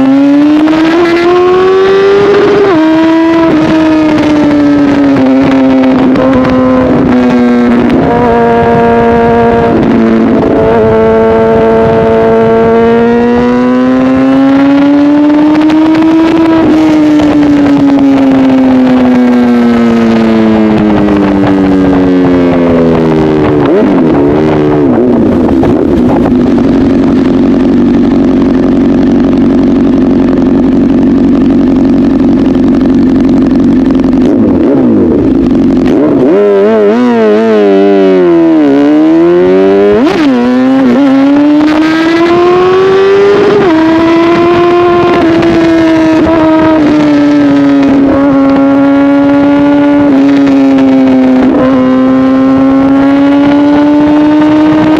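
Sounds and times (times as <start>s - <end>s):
motorcycle engine at high revs: 0.0s - 54.9s.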